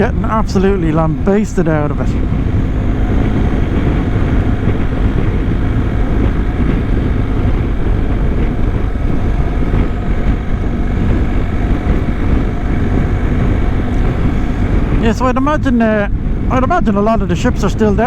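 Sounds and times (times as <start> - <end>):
motorcycle riding at speed: 0.0 - 18.0
wind rushing over microphone: 0.0 - 18.0.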